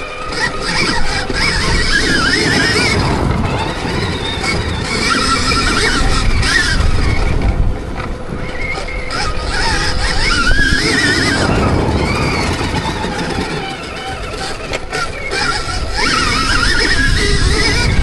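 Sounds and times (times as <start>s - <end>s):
electric motor whining: 0.0s - 18.0s
wind rumble on microphone: 0.0s - 18.0s.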